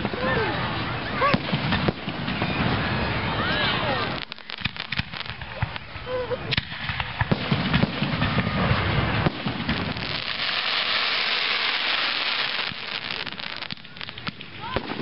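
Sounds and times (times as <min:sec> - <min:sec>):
fireworks hissing crackle: 0:00.0 - 0:15.0
fireworks pops and bangs: 0:00.0 - 0:15.0.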